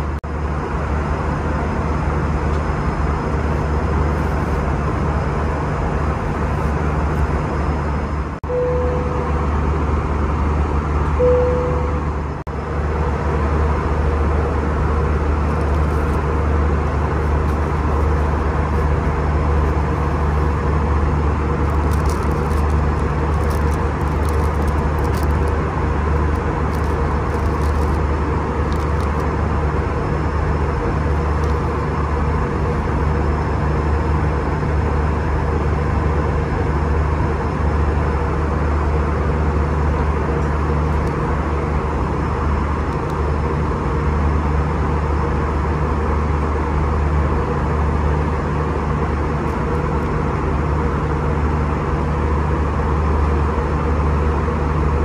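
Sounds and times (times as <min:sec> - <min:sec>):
airliner cabin noise: 0:00.0 - 0:55.0.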